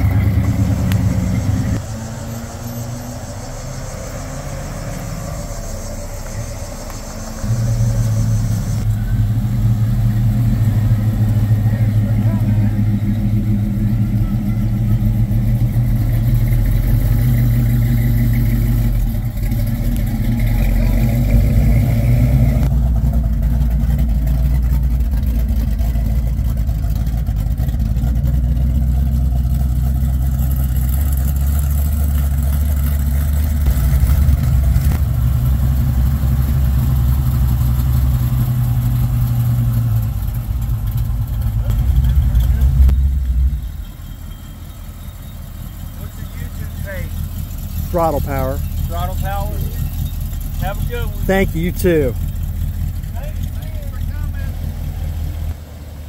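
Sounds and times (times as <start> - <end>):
car engines idling and pulling away: 0.0 - 56.0.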